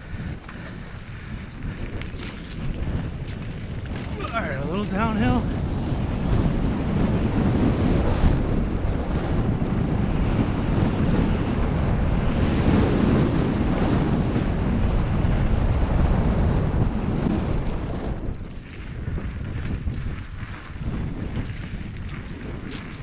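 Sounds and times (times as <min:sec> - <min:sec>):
bike tyres rolling on dirt: 0:00.0 - 0:23.0
wind buffeting microphone: 0:00.0 - 0:23.0.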